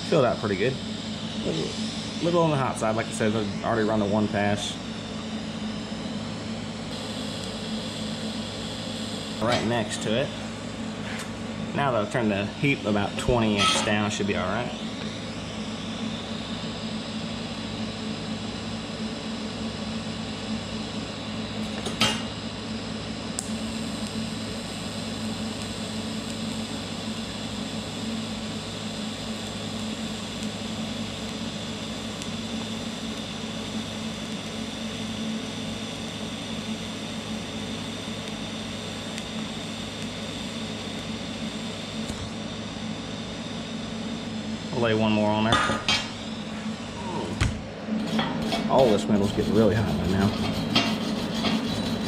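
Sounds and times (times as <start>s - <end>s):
welding arc hissing and buzzing: 0.0s - 52.0s.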